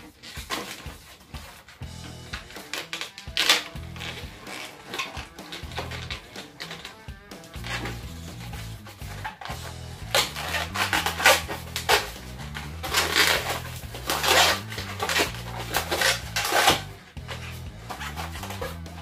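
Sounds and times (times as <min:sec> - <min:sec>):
background music: 0:00.0 - 0:19.0
balloons squeaking and rubbing: 0:00.0 - 0:19.0.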